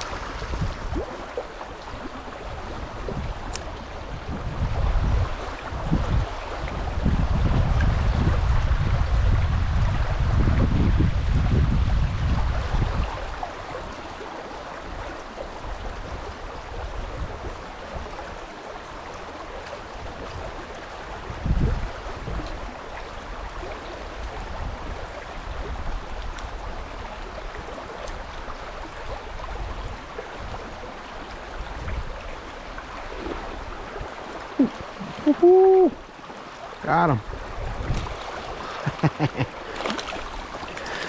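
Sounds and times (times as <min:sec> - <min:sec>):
river water flowing: 0:00.0 - 0:10.4, 0:11.2 - 0:41.0
wind rumble on microphone: 0:00.0 - 0:41.0.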